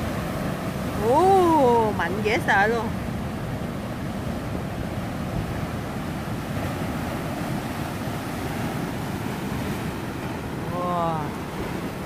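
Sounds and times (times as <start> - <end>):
ocean surf washing over rocks: 0.0 - 12.0.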